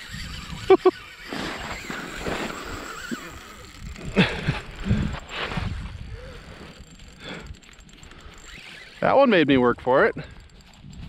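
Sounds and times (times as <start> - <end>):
fishing reel cranking: 0.0 - 11.0.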